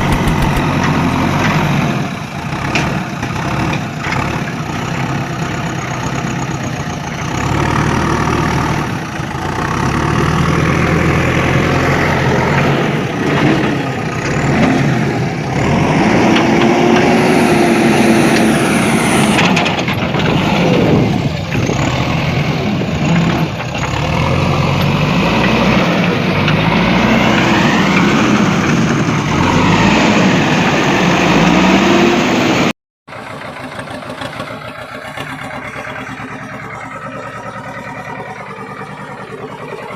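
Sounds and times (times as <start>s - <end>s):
tractor engines revving: 0.0s - 39.9s.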